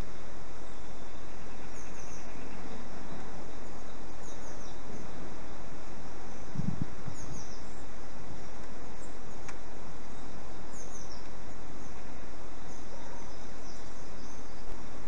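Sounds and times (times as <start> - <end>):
faint bird chirps: 0.0 - 15.0
outdoor background hiss: 0.0 - 15.0.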